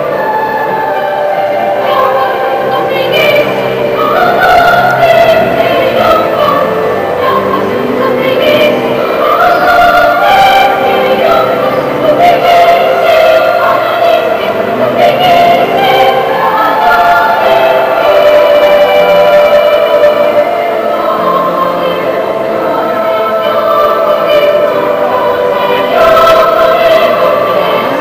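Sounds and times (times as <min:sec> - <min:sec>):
children's choir singing: 0:00.0 - 0:28.0.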